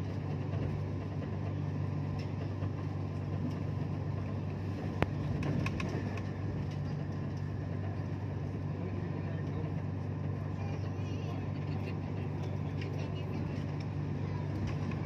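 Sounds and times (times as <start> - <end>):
train rumbling from inside carriage: 0.0 - 15.0.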